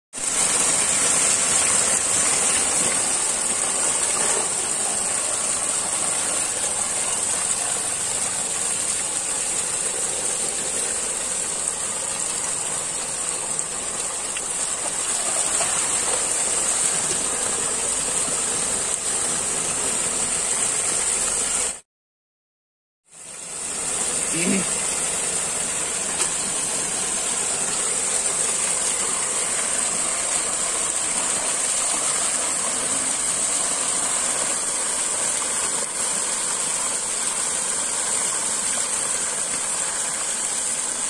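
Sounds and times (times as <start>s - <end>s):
water pouring and splashing: 0.2s - 21.8s, 23.1s - 41.0s.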